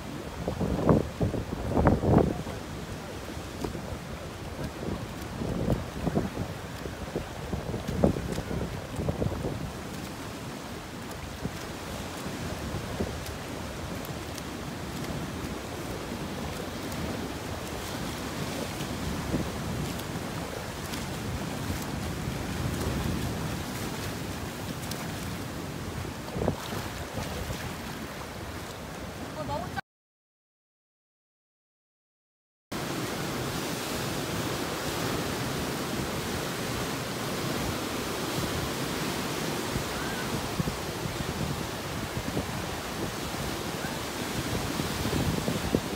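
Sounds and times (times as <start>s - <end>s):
sea water washing: 0.0s - 29.7s, 32.8s - 45.9s
surf breaking over rocks: 0.0s - 29.7s, 32.8s - 45.9s
wind: 0.0s - 29.8s, 32.7s - 45.9s.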